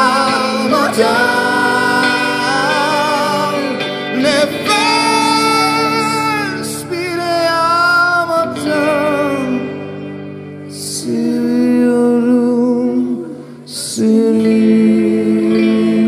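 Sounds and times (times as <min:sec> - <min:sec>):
guitar accompaniment: 0:00.0 - 0:16.0.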